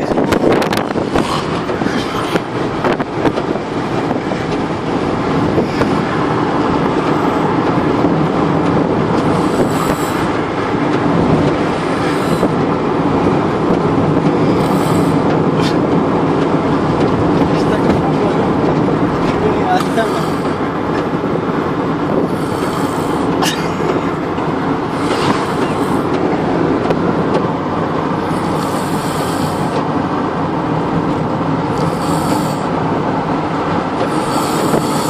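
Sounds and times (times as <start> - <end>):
road noise: 0.0 - 35.0
vehicle engine rumbling: 0.0 - 35.0.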